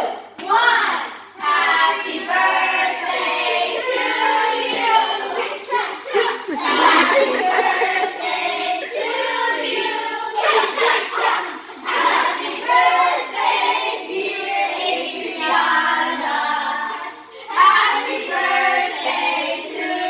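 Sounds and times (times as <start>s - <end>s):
children singing in unison: 1.3s - 20.0s.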